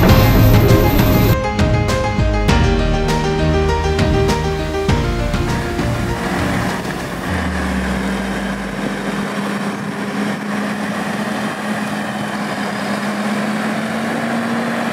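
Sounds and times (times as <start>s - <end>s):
tractor engine drone: 0.0s - 1.4s, 4.3s - 14.9s.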